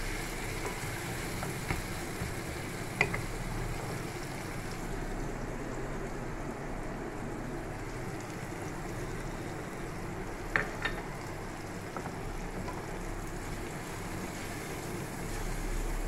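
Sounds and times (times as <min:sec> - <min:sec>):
onions frying in oil: 0:00.0 - 0:16.0.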